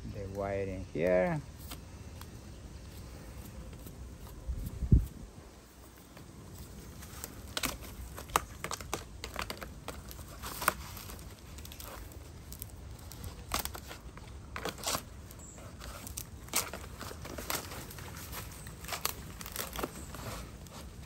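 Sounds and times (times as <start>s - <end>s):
dry leaves crinkling: 0.1s - 21.0s.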